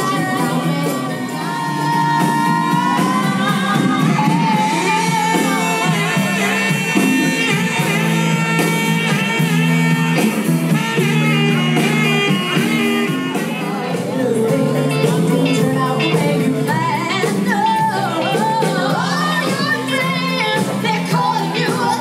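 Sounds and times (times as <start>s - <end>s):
women singing: 0.0s - 8.2s, 12.2s - 22.0s
live soft-rock band playing: 0.0s - 22.0s
saxophone: 0.0s - 22.0s.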